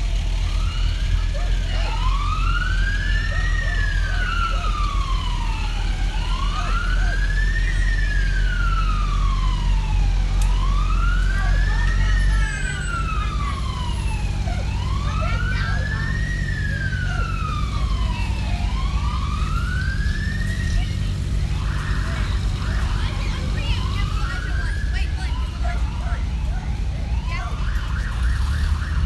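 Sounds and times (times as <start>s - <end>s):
low vehicle rumble: 0.0s - 29.0s
siren wailing: 0.1s - 29.0s.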